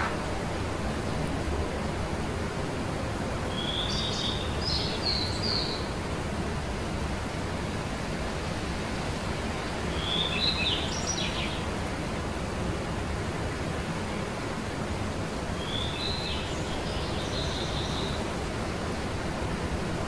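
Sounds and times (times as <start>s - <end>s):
songbirds chirping: 0.0s - 20.0s
steady rushing hiss: 0.0s - 20.0s.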